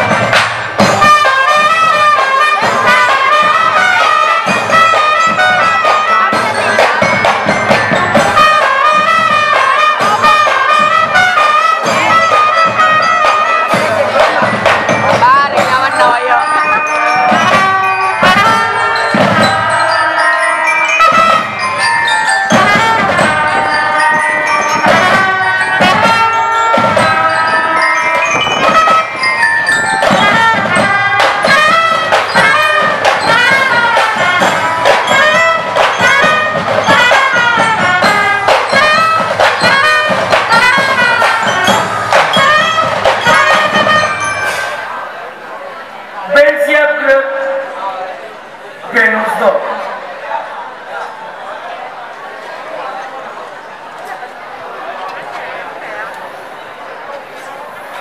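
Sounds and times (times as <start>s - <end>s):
marching band playing: 0.0s - 50.2s.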